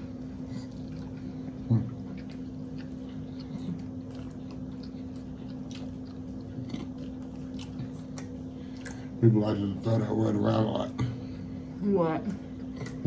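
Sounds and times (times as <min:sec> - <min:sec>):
people chewing sandwich: 0:00.0 - 0:13.0
steady low hum: 0:00.0 - 0:13.0.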